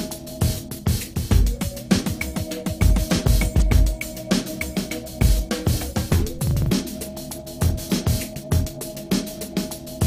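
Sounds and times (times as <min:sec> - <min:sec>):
steady electronic drum beat: 0:00.0 - 0:10.0.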